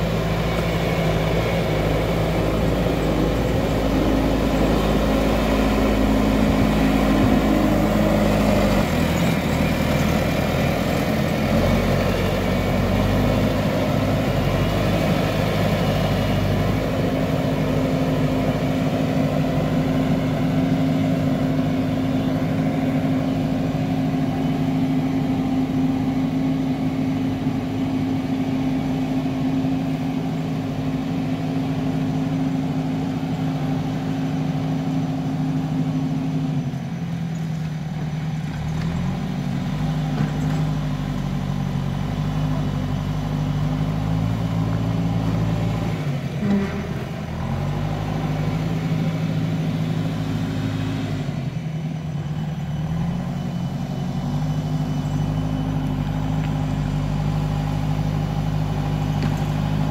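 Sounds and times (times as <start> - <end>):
backhoe diesel engine working: 0.0 - 59.9.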